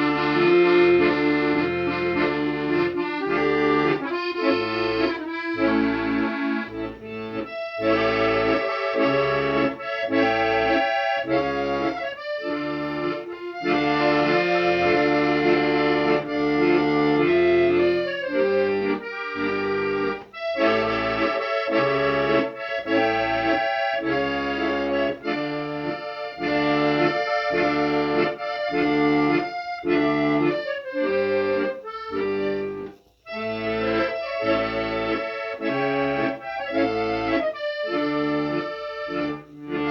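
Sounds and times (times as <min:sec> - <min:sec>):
accordion folk tune: 0:00.0 - 0:39.9.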